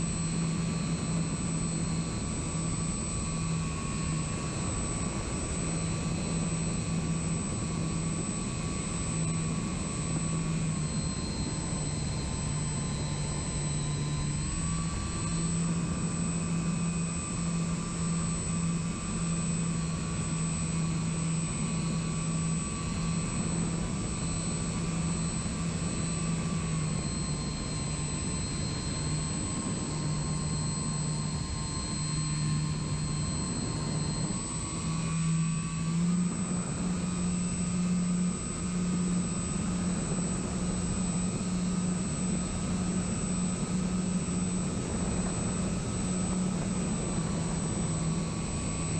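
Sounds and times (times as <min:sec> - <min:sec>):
electric motor and propeller whine: 0:00.0 - 0:48.9.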